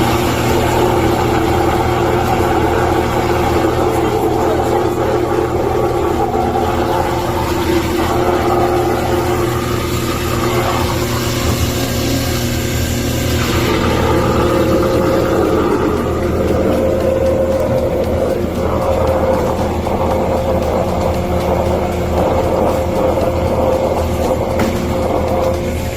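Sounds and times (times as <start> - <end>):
electric motor humming: 0.0 - 25.9
machine hissing: 0.0 - 25.9.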